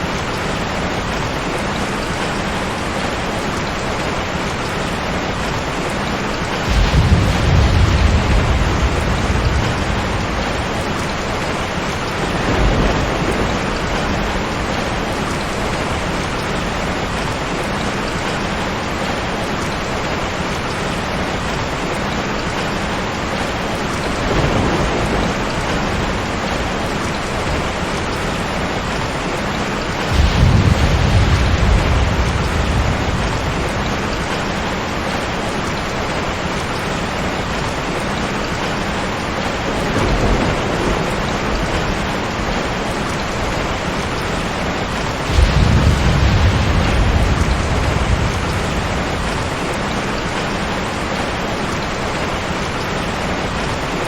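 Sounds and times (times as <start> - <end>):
heavy rain: 0.0 - 54.0
thunder rumbling: 6.5 - 54.0.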